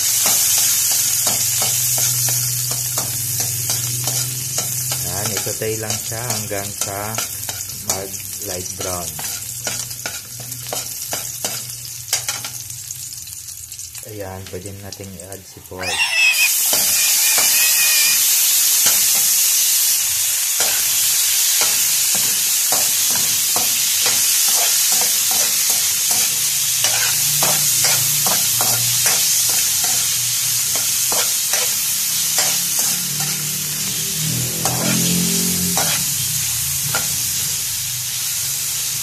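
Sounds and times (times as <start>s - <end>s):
meat sizzling in a wok: 0.0s - 39.0s.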